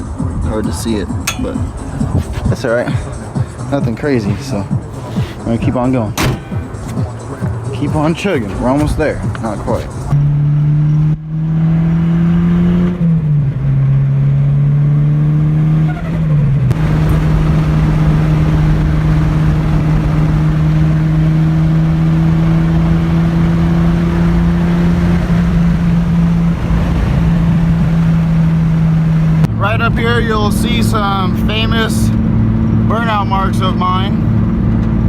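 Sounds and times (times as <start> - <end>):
road and wind noise: 0.0 - 35.0
car engine accelerating: 1.0 - 35.0.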